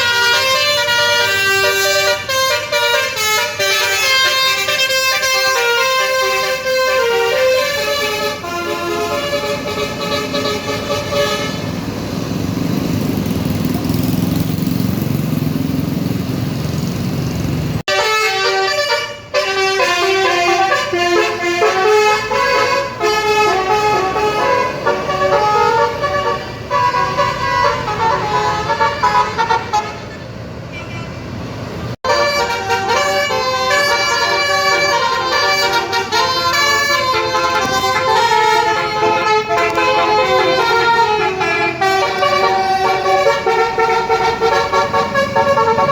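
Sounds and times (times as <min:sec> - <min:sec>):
musical bus horn tune: 0:00.0 - 0:11.8, 0:17.9 - 0:31.2, 0:32.0 - 0:45.9
low bus engine noise: 0:00.0 - 0:45.9.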